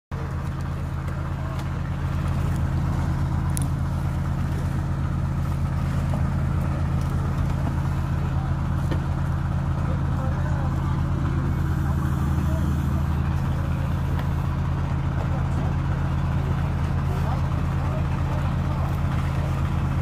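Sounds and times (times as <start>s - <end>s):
boat engine droning: 0.1s - 20.0s.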